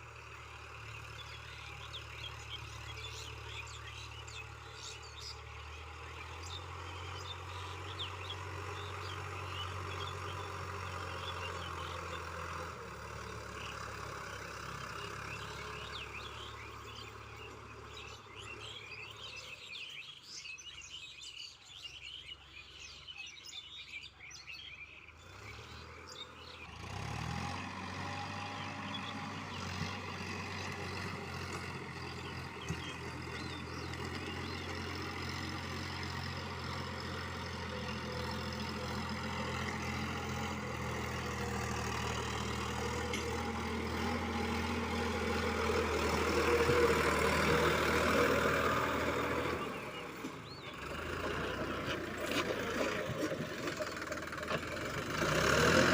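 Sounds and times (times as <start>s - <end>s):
birds chirping: 0.0s - 55.9s
tractor diesel engine: 0.0s - 55.9s.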